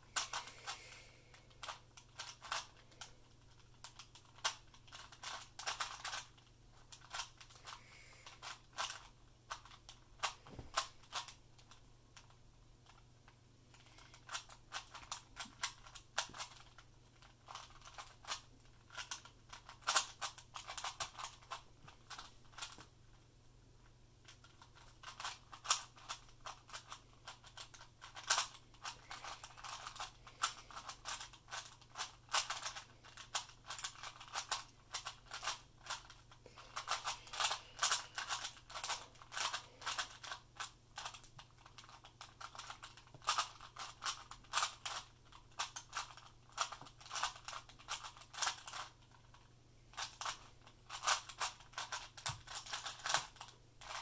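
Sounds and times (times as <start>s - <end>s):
plastic puzzle cube clicking: 0.2s - 0.8s, 1.4s - 13.0s, 13.8s - 22.8s, 24.2s - 54.0s.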